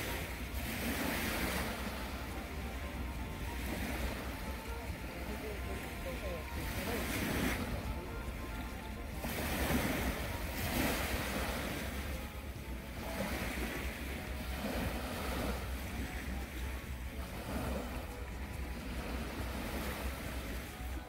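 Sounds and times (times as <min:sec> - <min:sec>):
small waves washing onto shore: 0:00.0 - 0:21.0.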